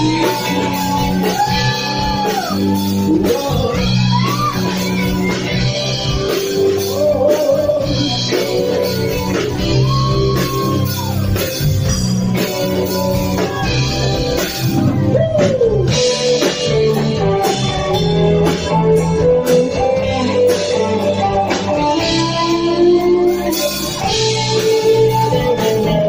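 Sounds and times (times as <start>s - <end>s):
bass guitar: 0.0s - 26.0s
drum kit: 0.0s - 26.0s
electric guitar lead with bends: 0.0s - 26.0s.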